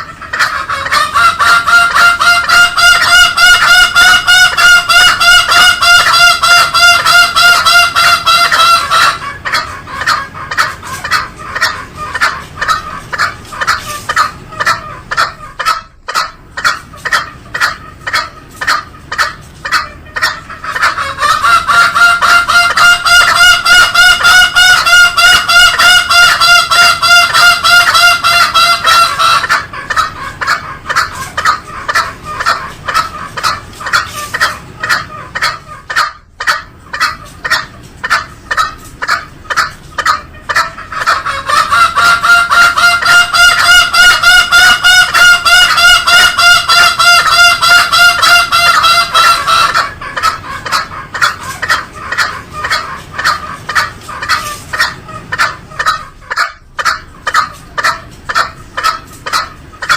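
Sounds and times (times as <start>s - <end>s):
junglefowl calling: 0.0s - 59.9s.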